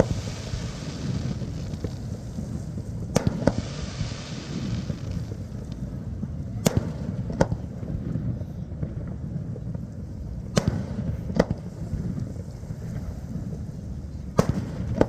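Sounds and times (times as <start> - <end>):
fireworks bangs: 0.0 - 9.7, 10.4 - 13.4, 14.2 - 15.0
low background rumble: 0.0 - 15.0.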